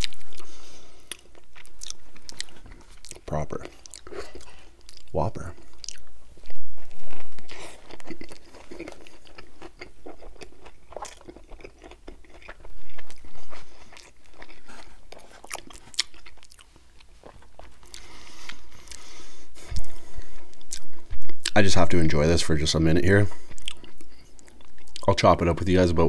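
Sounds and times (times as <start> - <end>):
person biting and chewing food: 0.0 - 21.6, 23.4 - 25.1.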